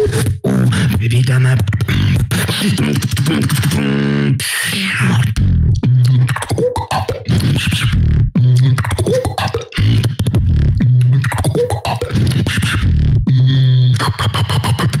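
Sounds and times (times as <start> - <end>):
person beatboxing: 0.0 - 15.0.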